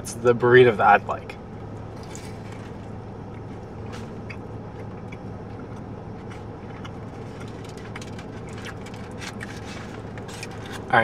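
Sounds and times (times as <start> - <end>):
car idling hum: 0.0 - 11.0
person chewing: 1.8 - 10.9.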